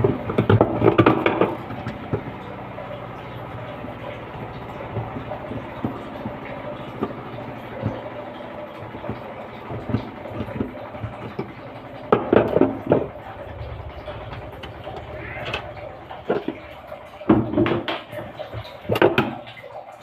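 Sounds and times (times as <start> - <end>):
washing machine humming: 0.0 - 20.0
knocks and clicks: 3.4 - 19.6.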